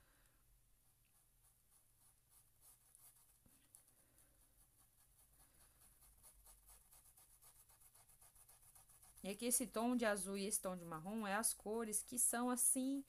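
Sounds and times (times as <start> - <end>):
paintbrush scrubbing fabric: 0.8 - 13.0.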